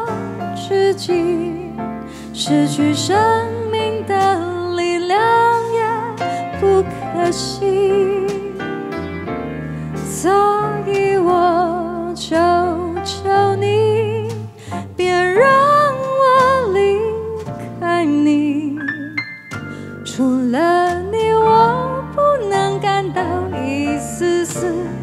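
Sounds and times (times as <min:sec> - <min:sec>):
bass line: 0:00.0 - 0:25.0
jazz-style pop ballad: 0:00.0 - 0:25.0
light percussion: 0:00.0 - 0:25.0.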